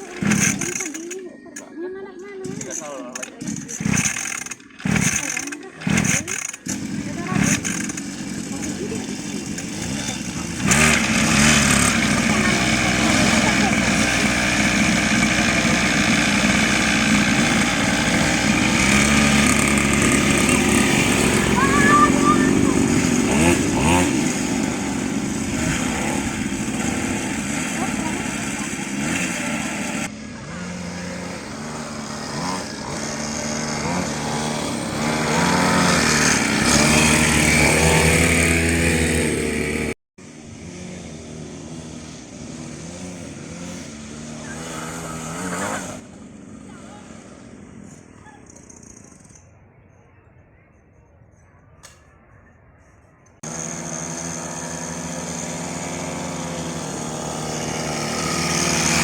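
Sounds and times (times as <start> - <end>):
mini motocross bike engines: 0.0 - 50.8, 51.8 - 59.0
steady engine note: 2.4 - 47.8, 53.4 - 59.0.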